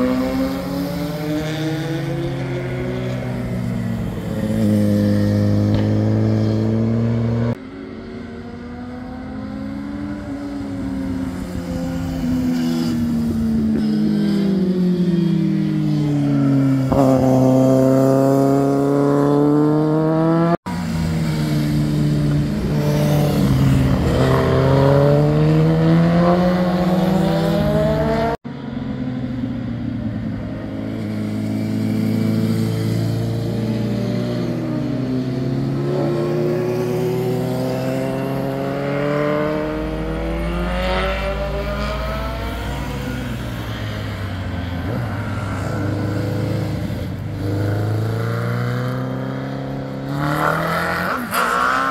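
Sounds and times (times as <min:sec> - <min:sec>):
motorcycles passing: 0:00.0 - 0:51.9.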